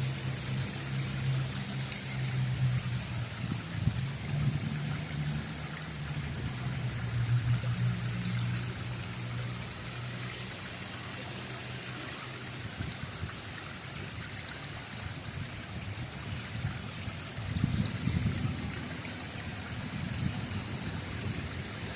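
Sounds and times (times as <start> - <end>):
deep water gush: 0.0 - 21.9
stream running and trickling: 0.0 - 21.9.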